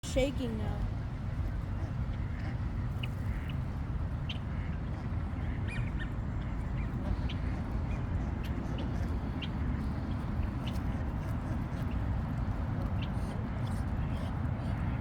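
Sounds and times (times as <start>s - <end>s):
steady low rumble: 0.0s - 15.0s
birds calling: 0.2s - 15.0s.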